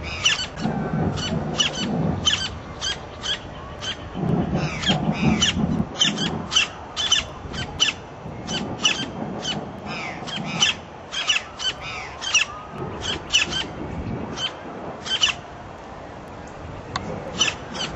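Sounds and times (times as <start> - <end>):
birds calling sharply: 0.0 - 15.5.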